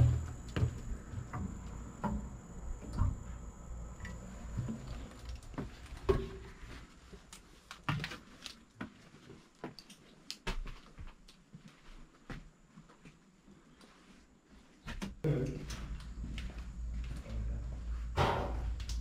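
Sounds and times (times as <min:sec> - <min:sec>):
footsteps: 0:00.0 - 0:02.3, 0:04.4 - 0:19.0.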